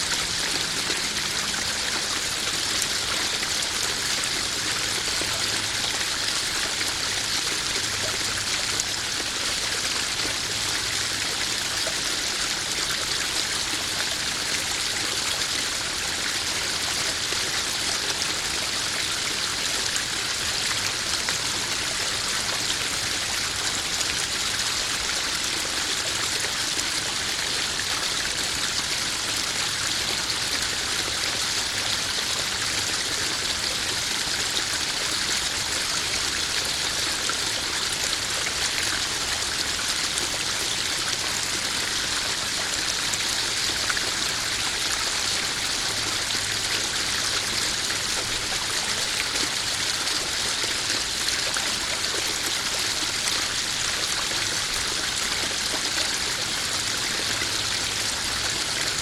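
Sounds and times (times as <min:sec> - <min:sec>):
small waterfall splashing and trickling: 0:00.0 - 0:59.0.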